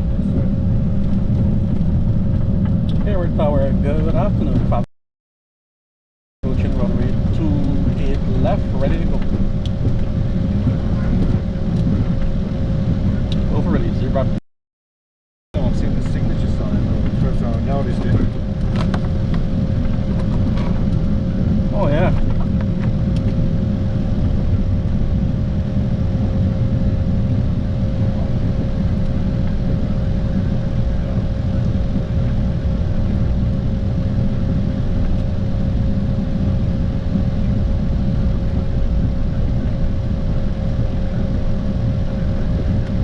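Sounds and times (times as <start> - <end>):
jet engine low rumble: 0.0 - 4.9, 6.4 - 14.4, 15.6 - 43.0
jet engine whine: 0.0 - 4.9, 6.4 - 14.4, 15.6 - 43.0.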